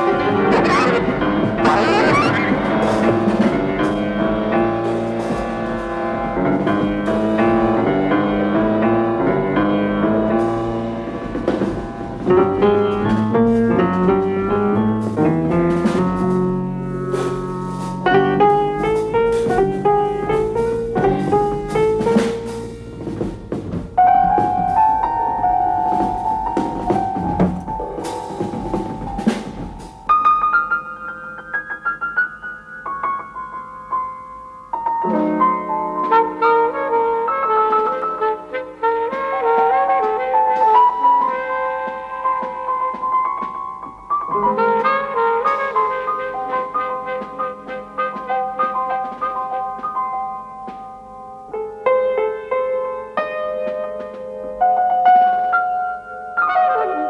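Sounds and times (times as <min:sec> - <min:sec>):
jazzy instrumental music: 0:00.0 - 0:57.0.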